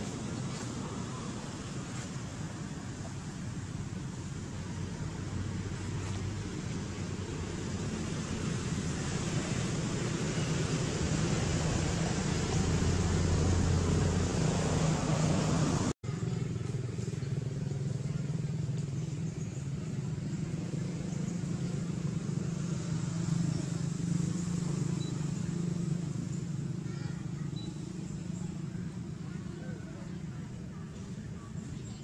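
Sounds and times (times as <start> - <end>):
distant motor traffic hum: 0.0 - 32.0.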